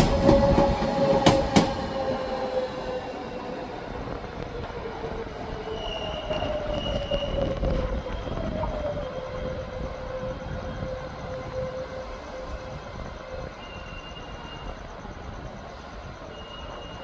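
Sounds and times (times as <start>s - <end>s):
commuter train running slowly: 0.0s - 17.0s
high train squeal: 0.0s - 17.0s.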